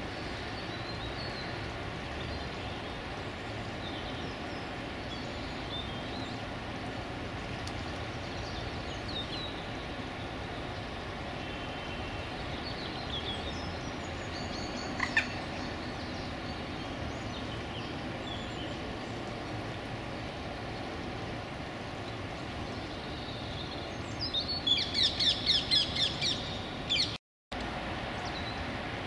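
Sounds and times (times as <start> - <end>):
small birds chirping: 0.0 - 6.6, 7.3 - 19.7, 21.8 - 27.2.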